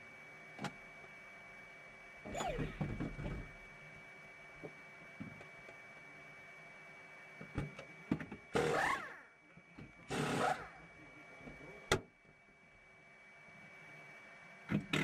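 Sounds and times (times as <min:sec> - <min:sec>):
steady high whine: 0:00.0 - 0:14.9.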